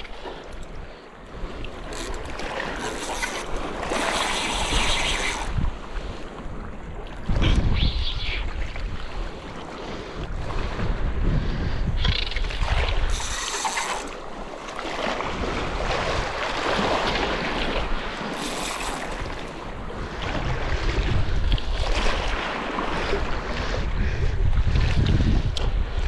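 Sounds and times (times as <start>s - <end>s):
sea washing against reef: 0.0s - 26.0s
wind buffeting microphone: 3.5s - 13.5s, 14.4s - 26.0s.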